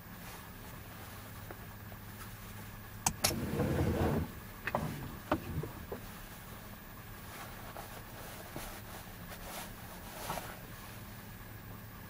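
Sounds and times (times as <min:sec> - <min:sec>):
distant diesel engine running: 0:00.0 - 0:12.0.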